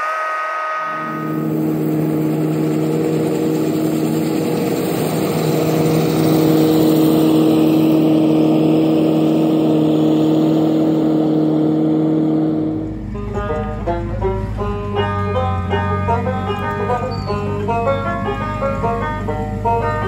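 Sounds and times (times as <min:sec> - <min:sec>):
combine harvester engine running: 0:00.9 - 0:20.0.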